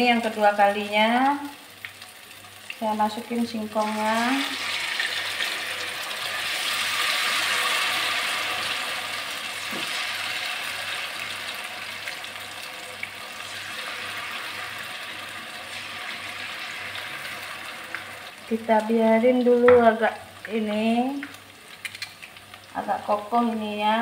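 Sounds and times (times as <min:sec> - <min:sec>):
hot oil sizzling: 0:00.0 - 0:24.0.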